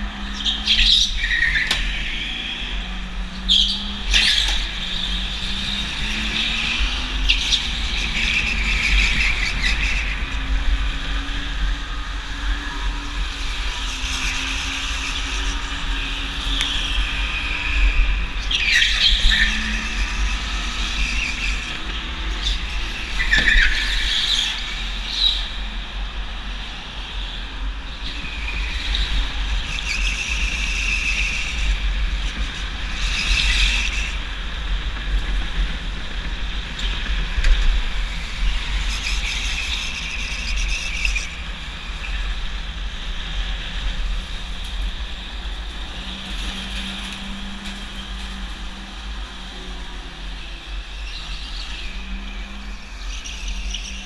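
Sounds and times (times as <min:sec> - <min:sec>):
go-kart engine rumble: 0:00.0 - 0:54.0.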